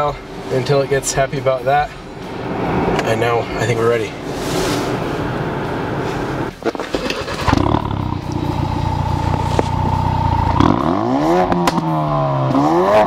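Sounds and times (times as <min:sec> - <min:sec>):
high whine: 0:00.0 - 0:12.5
car engine idling and revving: 0:00.0 - 0:13.0.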